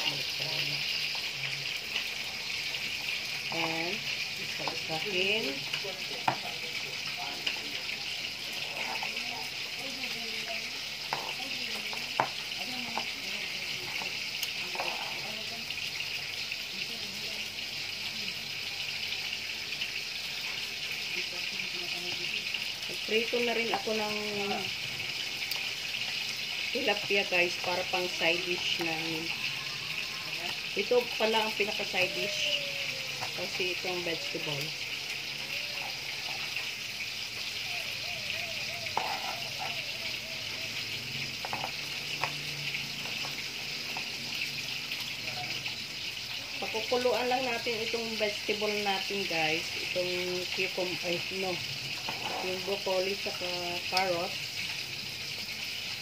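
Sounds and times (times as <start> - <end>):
oil sizzling in a pan: 0.0 - 56.0.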